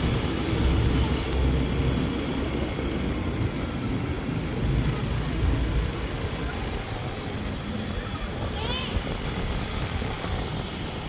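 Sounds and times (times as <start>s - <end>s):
scooter engine rumble: 0.0s - 11.0s
wind noise: 0.0s - 11.0s.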